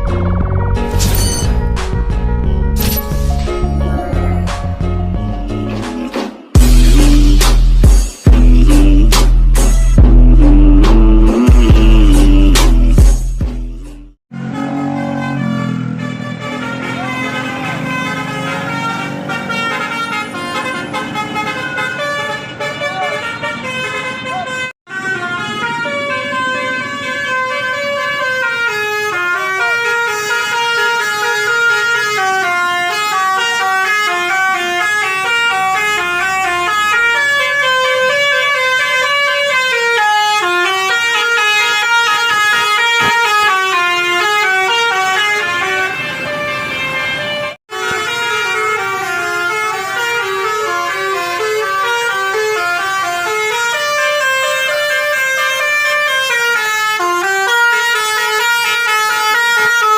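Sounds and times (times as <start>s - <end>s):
bus horns playing melody: 0.0s - 59.9s.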